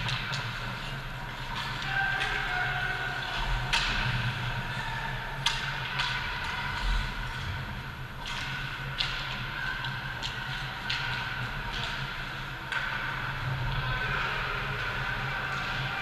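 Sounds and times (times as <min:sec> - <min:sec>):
hockey sticks and puck clacking: 0:00.0 - 0:16.0.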